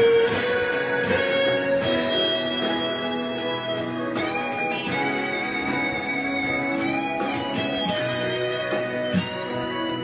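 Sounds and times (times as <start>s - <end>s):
electric guitar slow melody: 0.0s - 10.0s.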